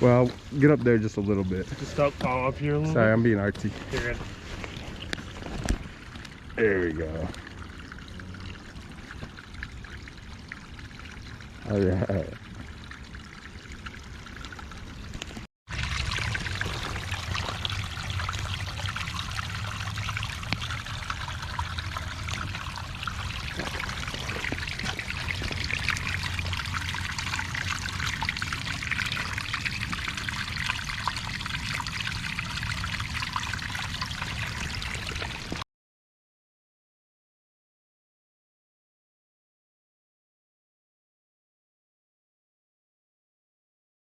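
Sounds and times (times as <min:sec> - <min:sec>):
creek water rushing and trickling: 0:00.0 - 0:35.6.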